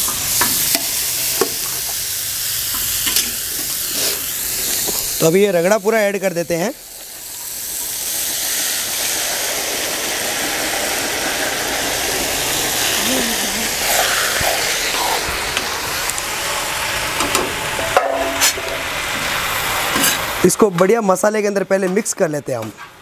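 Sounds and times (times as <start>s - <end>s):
food sizzling in hot oil: 0.0s - 22.2s.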